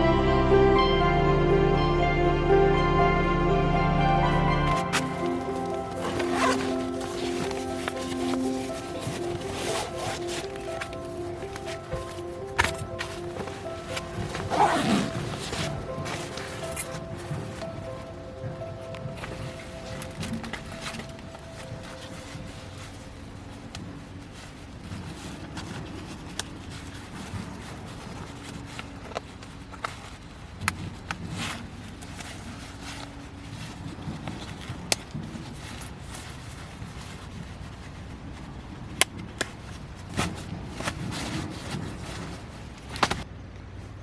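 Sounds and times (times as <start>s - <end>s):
steady low background noise: 0.0s - 44.0s.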